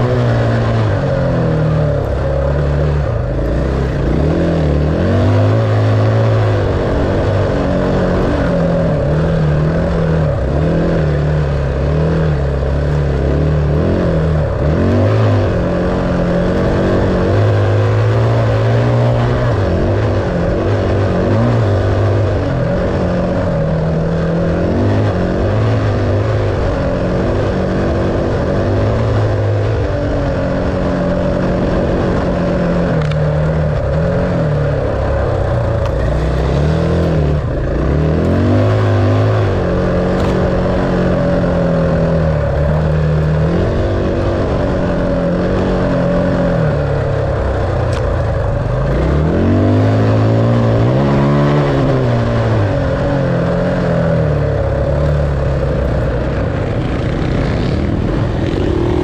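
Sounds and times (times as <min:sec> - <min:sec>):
dirt bike engine revving: 0:00.0 - 0:59.0
wind and riding noise: 0:00.0 - 0:59.0.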